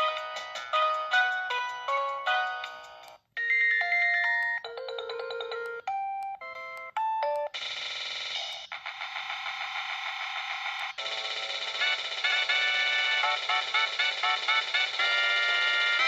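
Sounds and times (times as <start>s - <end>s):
chiming electronic ringtone melody: 0.0s - 8.6s, 9.2s - 16.0s
ringtone with held electronic notes: 0.0s - 16.0s.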